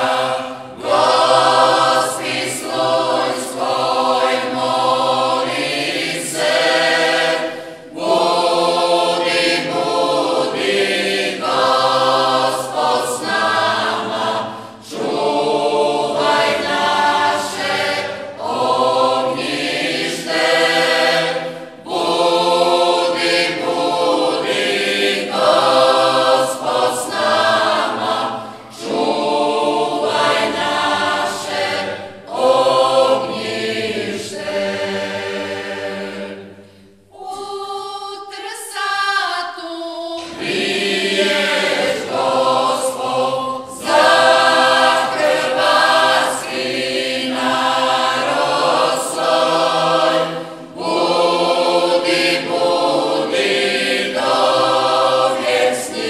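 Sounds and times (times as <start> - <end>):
choir singing a hymn unaccompanied: 0.0 - 56.0.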